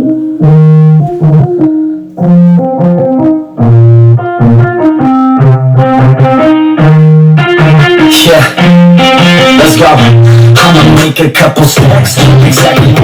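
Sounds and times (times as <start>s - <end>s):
keyboard notes: 0.0s - 11.1s
repeating bass line: 0.0s - 11.1s.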